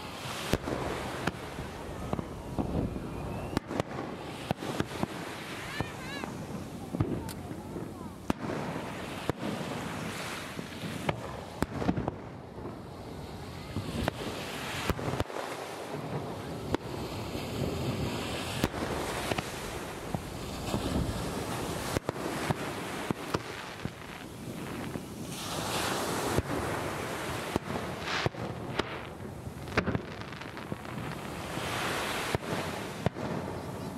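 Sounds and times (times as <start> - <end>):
distant fireworks bangs: 0.1 - 33.9.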